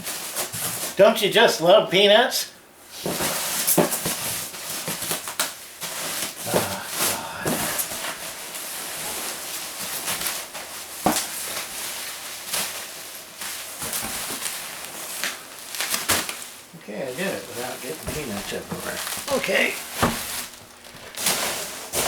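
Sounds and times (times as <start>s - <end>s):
packing peanuts rustling and crackling: 3.0s - 22.0s.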